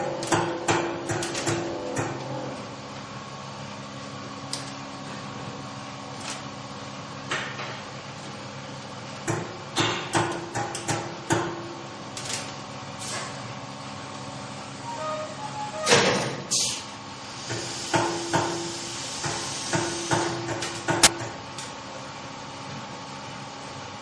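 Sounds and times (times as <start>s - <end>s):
milking machinery humming: 0.0s - 24.0s.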